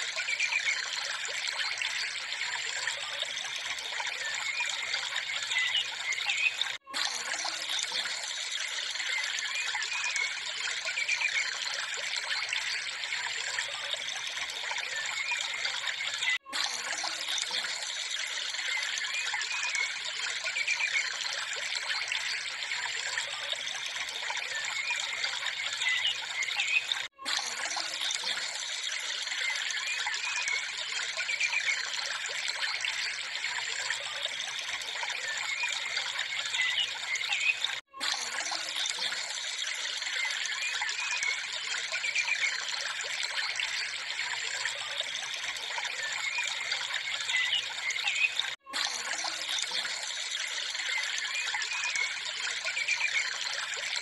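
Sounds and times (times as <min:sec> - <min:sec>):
hissing trickling water: 0:00.0 - 0:54.0.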